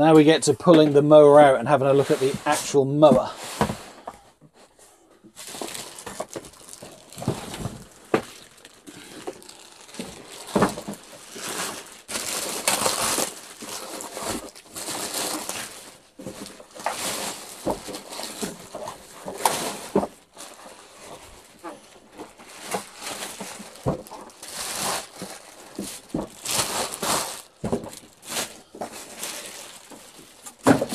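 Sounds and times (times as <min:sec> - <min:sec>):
cardboard scraping: 0:01.8 - 0:04.8, 0:05.4 - 0:30.9
plastic wrapping crinkling: 0:05.3 - 0:30.9.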